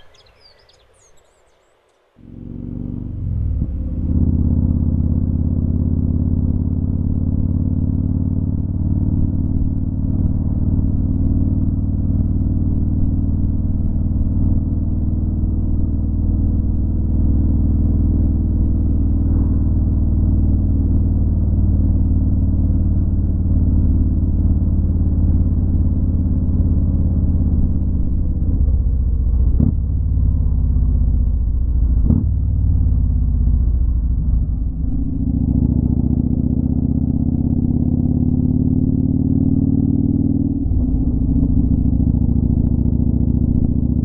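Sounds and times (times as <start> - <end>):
motorcycle engine running: 2.2 - 44.0.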